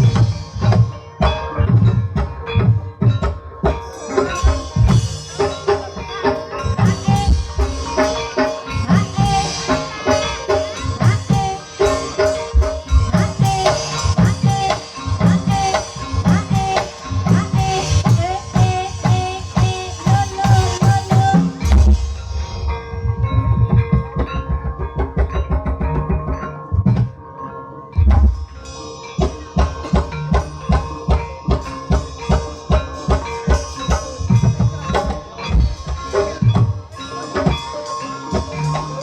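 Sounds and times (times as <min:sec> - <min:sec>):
hand drums beating fast rhythm: 0:00.0 - 0:22.3, 0:23.1 - 0:27.2, 0:29.2 - 0:39.0.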